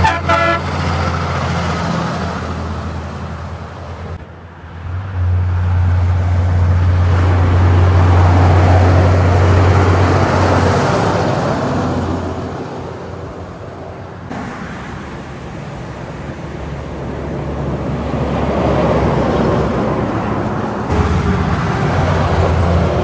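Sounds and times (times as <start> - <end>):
diesel truck engine drone: 0.0 - 23.0.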